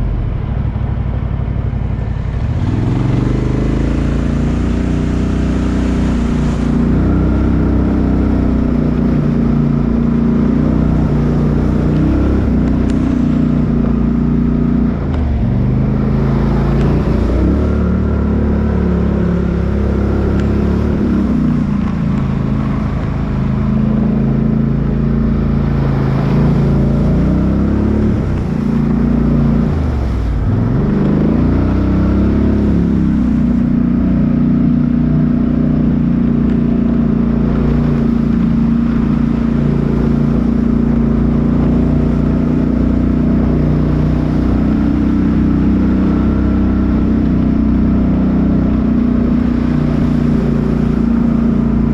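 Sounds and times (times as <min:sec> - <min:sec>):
engine revving up and down: 0:02.3 - 0:51.9.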